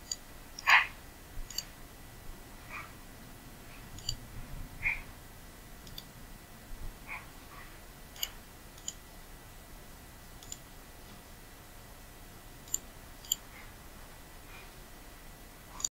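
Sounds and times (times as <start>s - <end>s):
faint room hiss: 0.0s - 15.9s.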